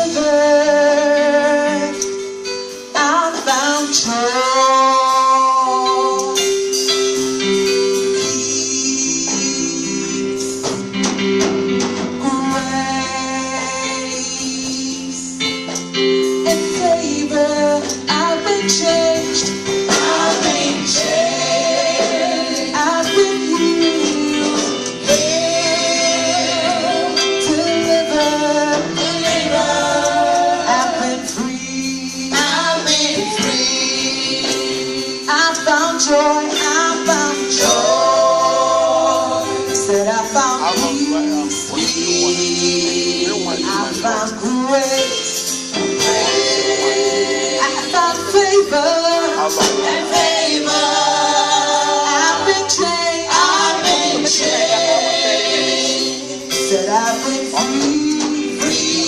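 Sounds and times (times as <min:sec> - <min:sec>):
gospel choir singing: 0:00.0 - 0:59.0
instrumental backing: 0:00.0 - 0:59.0.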